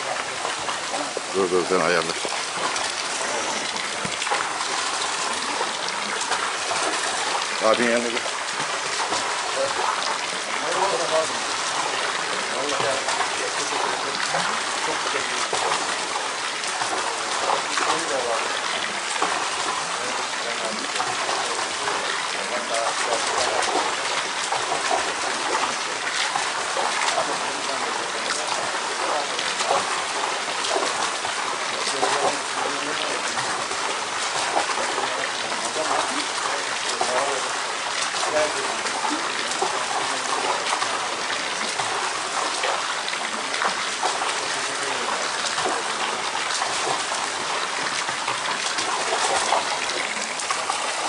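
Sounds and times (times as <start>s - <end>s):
water running and splashing: 0.0s - 51.0s.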